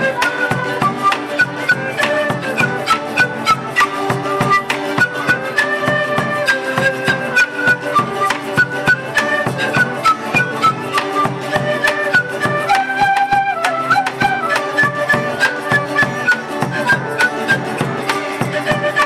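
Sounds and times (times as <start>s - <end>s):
cane flute melody: 0.0s - 19.0s
strummed strings: 0.0s - 19.0s.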